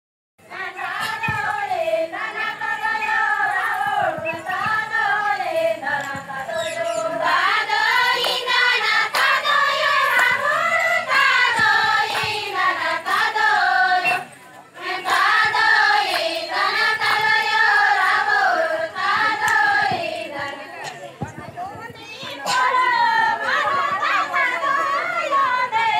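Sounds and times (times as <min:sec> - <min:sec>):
women singing folk song in unison: 0:00.4 - 0:25.9.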